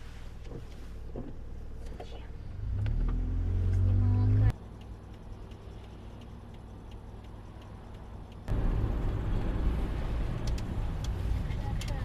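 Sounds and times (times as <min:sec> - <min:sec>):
car road and engine rumble: 0:00.0 - 0:12.0
turn signal ticking: 0:00.5 - 0:12.0.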